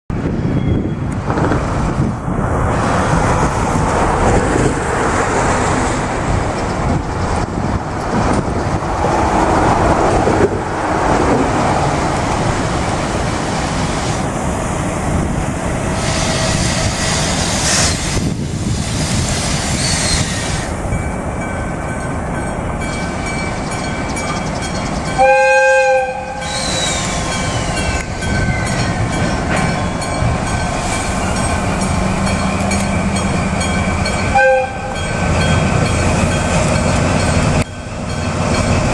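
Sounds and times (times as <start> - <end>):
road traffic rumble: 0.1 - 38.9.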